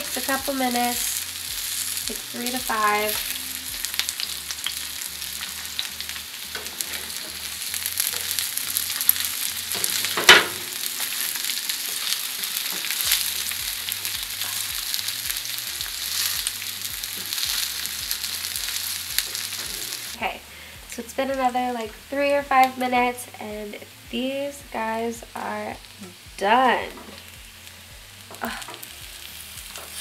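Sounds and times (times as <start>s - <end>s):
patties sizzling in oil: 0.0s - 30.0s.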